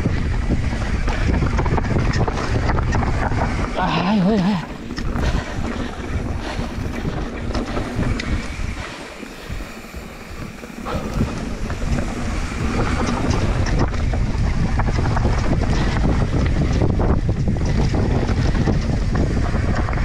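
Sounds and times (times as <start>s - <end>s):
bike tyres and frame rattling: 0.0s - 20.0s
wind on camera microphone: 0.0s - 20.0s.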